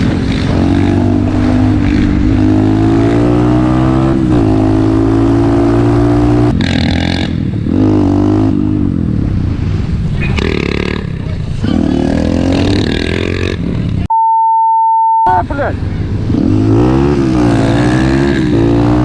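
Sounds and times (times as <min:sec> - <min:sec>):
motorcycle engine accelerating: 0:00.0 - 0:14.1, 0:16.1 - 0:19.0.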